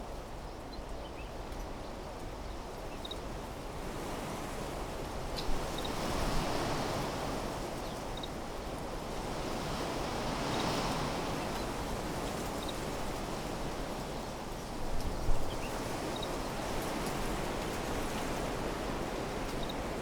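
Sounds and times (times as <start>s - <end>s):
wind blowing through trees: 0.0s - 20.0s.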